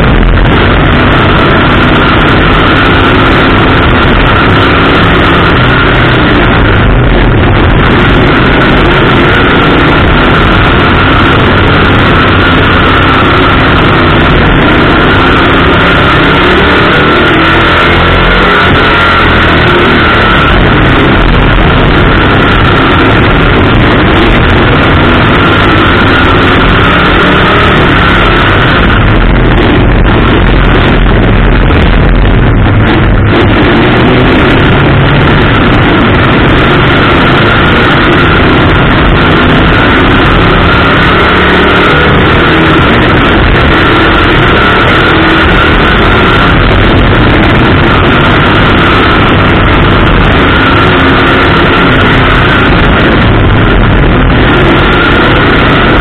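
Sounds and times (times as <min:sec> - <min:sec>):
race car engine roaring: 0:00.0 - 0:56.0
wind noise: 0:00.0 - 0:56.0.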